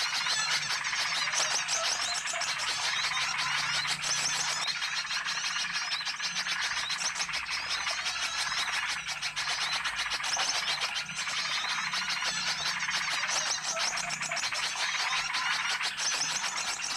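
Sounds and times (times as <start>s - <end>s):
many small birds chirping: 0.0s - 16.9s.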